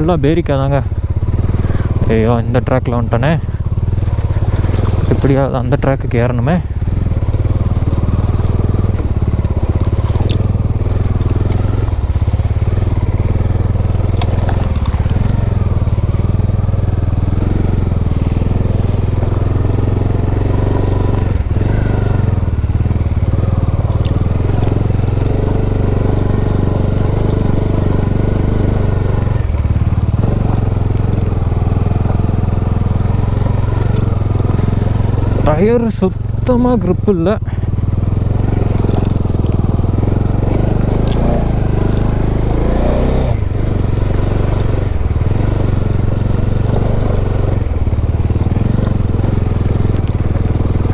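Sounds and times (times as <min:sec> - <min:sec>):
motorcycle engine at low revs: 0:00.0 - 0:50.9
tyres crunching over loose stones: 0:01.1 - 0:50.9.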